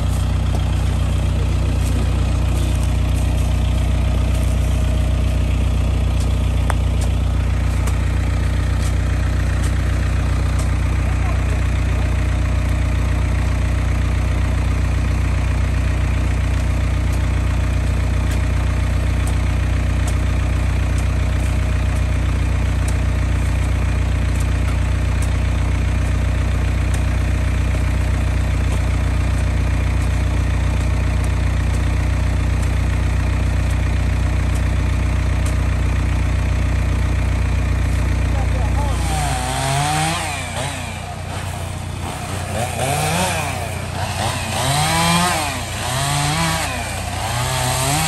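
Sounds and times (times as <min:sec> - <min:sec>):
tractor engine idling: 0:00.0 - 0:48.0.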